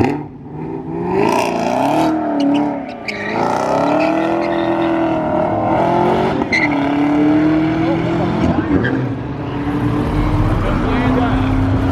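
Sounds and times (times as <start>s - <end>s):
car engines revving: 0.0s - 11.9s.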